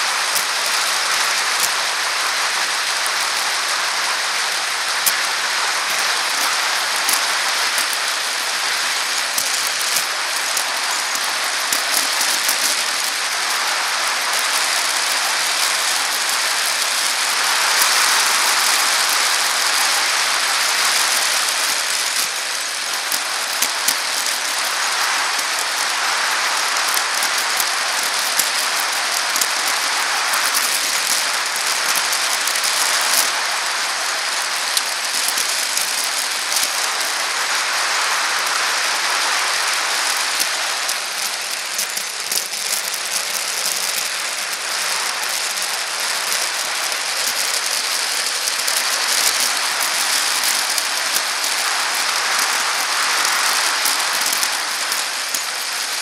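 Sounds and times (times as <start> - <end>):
bicycle tyres on asphalt: 0.0 - 56.0
bike rattling clicks: 4.5 - 37.4, 38.4 - 56.0.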